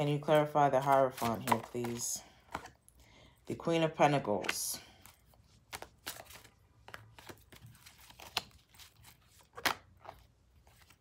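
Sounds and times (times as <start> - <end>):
cards being shuffled: 0.0 - 2.8, 4.2 - 11.0.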